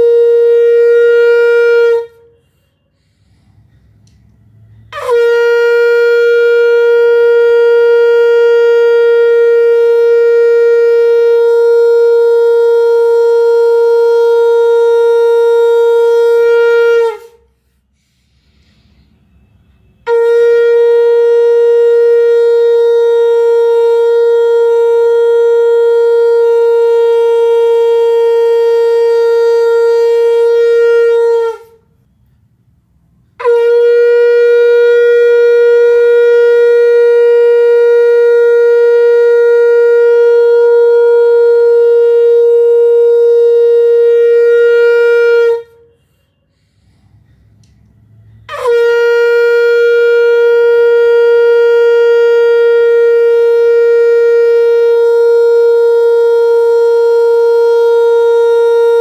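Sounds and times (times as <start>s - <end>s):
conch shell blasts: 0.0s - 3.7s, 4.3s - 17.6s, 19.0s - 32.0s, 33.3s - 59.0s.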